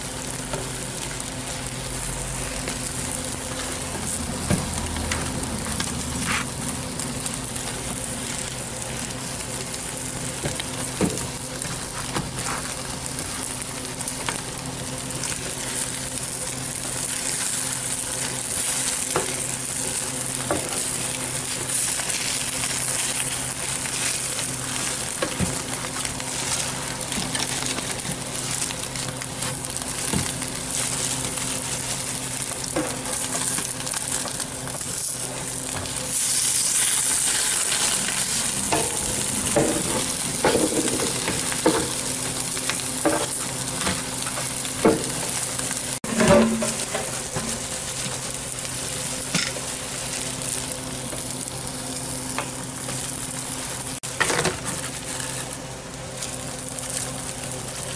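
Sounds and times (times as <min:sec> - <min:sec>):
egg sizzling on griddle: 0:00.0 - 0:57.9.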